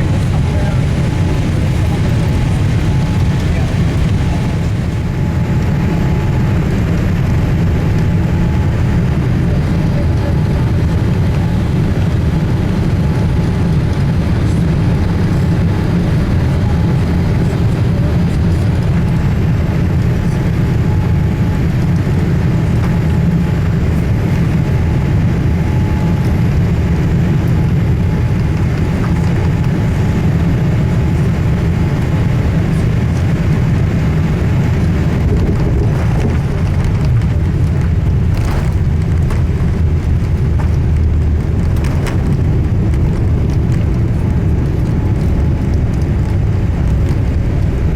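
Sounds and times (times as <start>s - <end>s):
aircraft cabin engine rumble: 0.0s - 47.9s.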